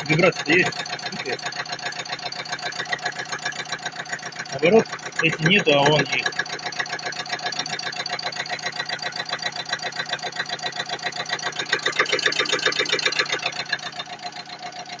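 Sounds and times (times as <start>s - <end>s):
engine idling: 0.0s - 15.0s
rhythmic ticking knock: 0.0s - 15.0s.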